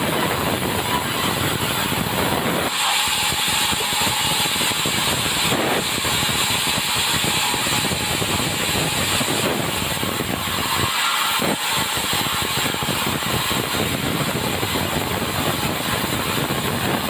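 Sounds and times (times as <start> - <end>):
sawmill cutting timber: 0.0 - 17.0.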